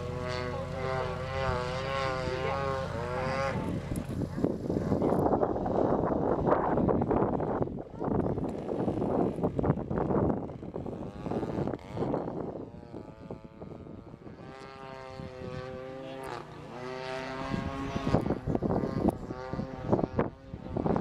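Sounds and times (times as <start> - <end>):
model airplane engine flying past: 0.0 - 21.0
wind buffeting microphone: 0.0 - 21.0.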